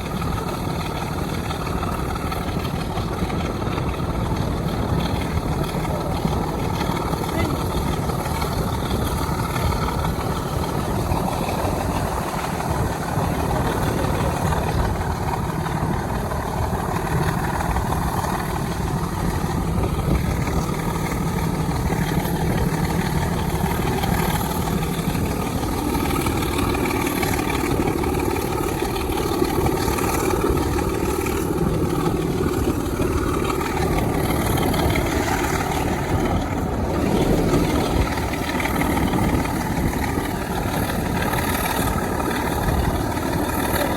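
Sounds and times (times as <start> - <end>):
diesel locomotive engine rumbling: 0.0 - 43.9
train noise: 0.0 - 43.9.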